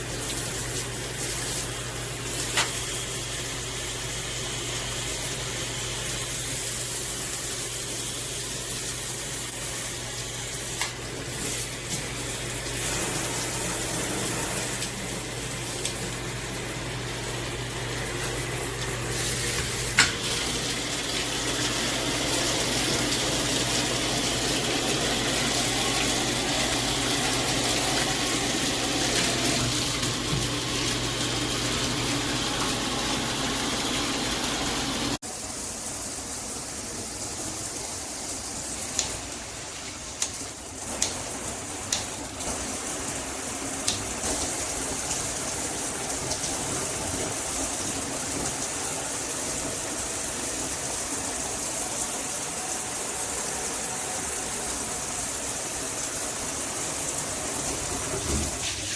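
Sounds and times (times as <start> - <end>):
shower head spraying water: 0.0 - 58.9.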